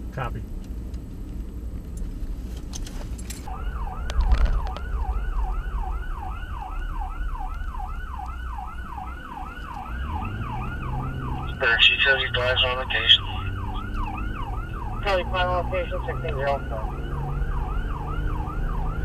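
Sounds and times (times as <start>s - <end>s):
vehicle engine and road noise: 0.0s - 19.0s
siren in fast yelp: 3.5s - 19.0s.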